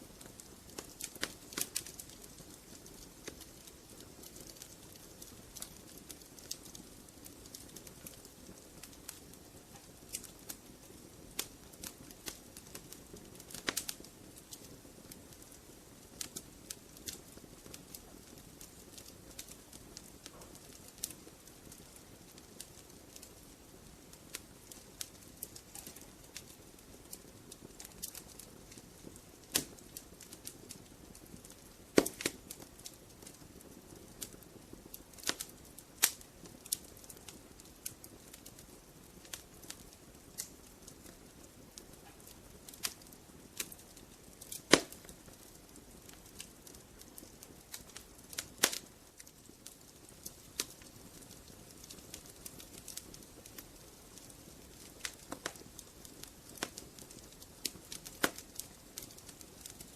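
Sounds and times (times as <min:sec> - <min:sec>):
faint steady hiss: 0:00.0 - 0:59.9
wood fire crackling: 0:00.0 - 0:59.9.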